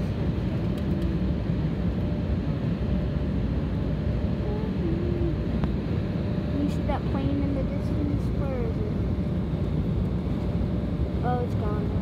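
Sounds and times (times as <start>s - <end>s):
airliner cabin engine rush: 0.0s - 12.0s
faint steady hum: 0.0s - 12.0s.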